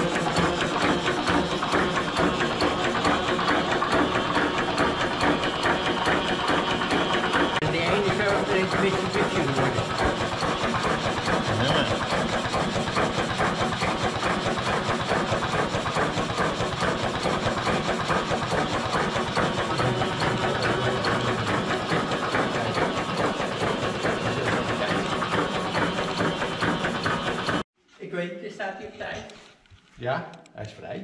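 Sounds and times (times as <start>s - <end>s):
old engine knocking: 0.0s - 27.6s.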